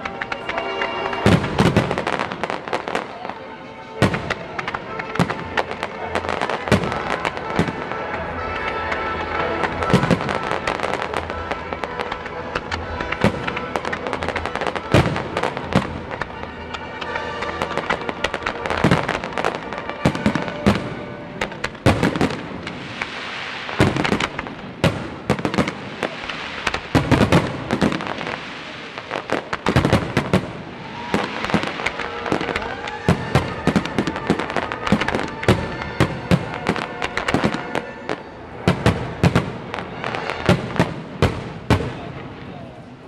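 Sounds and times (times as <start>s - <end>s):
fireworks crackle: 0.0s - 43.0s
firework shells bursting: 4.0s - 42.0s.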